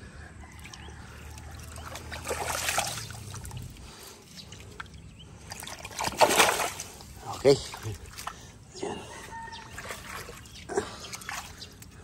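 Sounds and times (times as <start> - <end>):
pond water splashing: 0.5 - 12.0.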